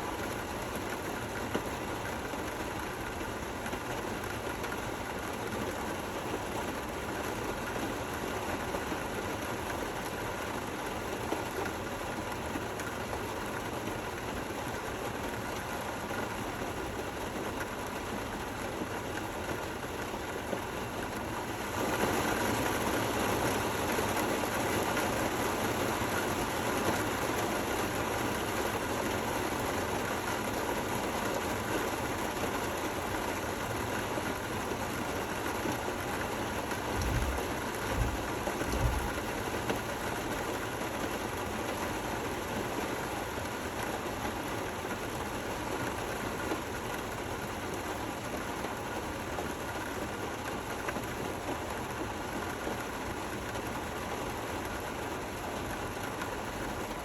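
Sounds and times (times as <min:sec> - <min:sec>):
rain falling: 0:00.1 - 0:57.0.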